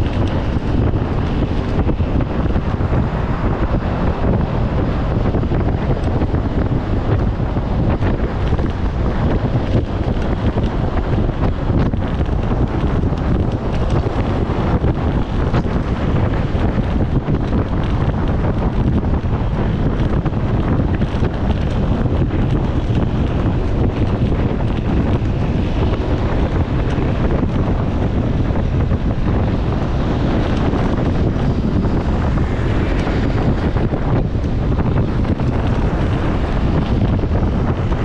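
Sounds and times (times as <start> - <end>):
road noise: 0.0 - 38.0
wind buffeting microphone: 0.0 - 38.0.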